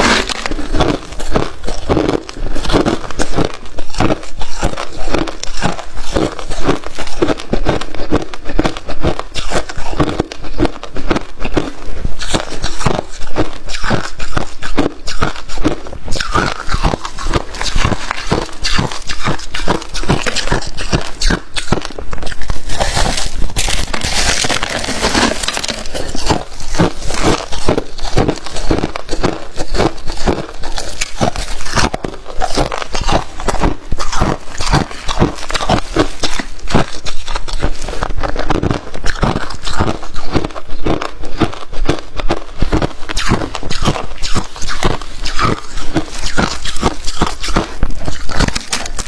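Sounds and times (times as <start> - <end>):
frost being chewed: 0.0 - 49.0.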